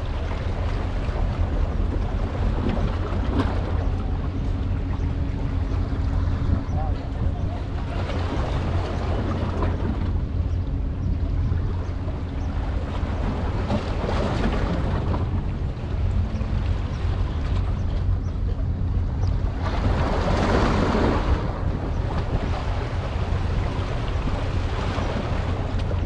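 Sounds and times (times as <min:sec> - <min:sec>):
wind rumble: 0:00.0 - 0:26.0.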